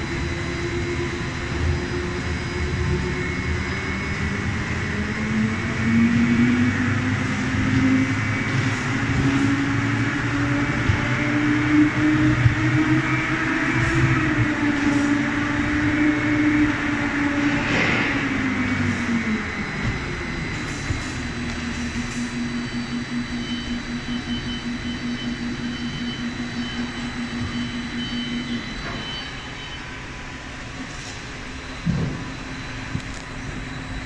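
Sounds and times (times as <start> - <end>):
machine hum with motor tone: 0.0 - 34.0.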